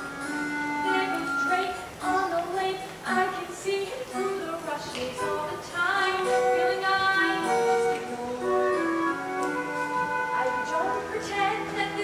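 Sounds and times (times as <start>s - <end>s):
instrumental accompaniment: 0.0s - 12.0s
young woman singing: 0.8s - 9.2s, 10.2s - 12.0s.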